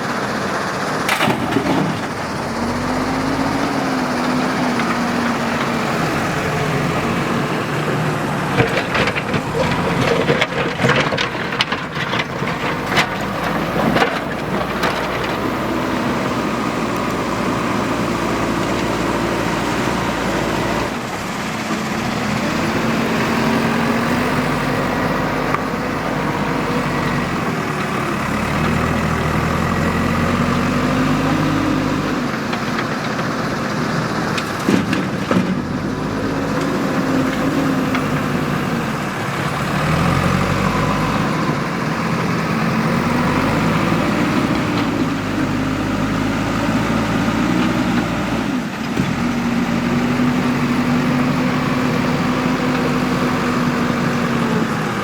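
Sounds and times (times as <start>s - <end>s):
diesel engine revving under load: 0.0s - 55.0s.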